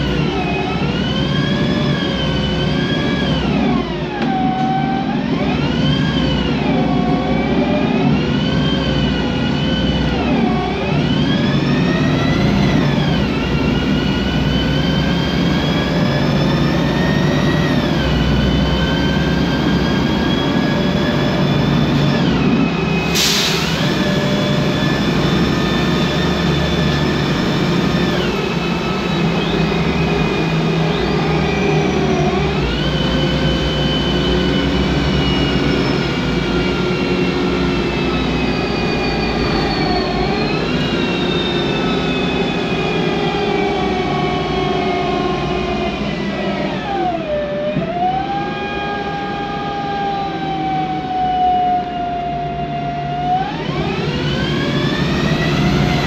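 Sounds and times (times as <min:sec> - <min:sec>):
bus engine whine: 0:00.0 - 0:56.0.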